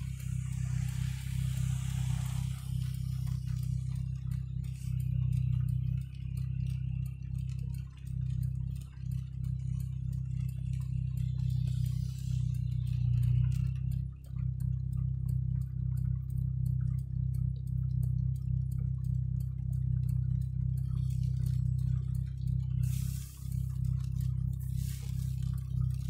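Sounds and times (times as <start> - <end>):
car engine and road noise: 0.0 - 26.0
light ticks: 0.0 - 26.0.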